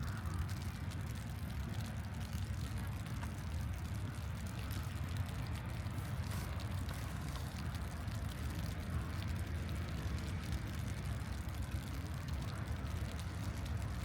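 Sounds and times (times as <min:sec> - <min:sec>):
light ticks: 0:00.0 - 0:14.0
low city rumble: 0:00.0 - 0:14.0.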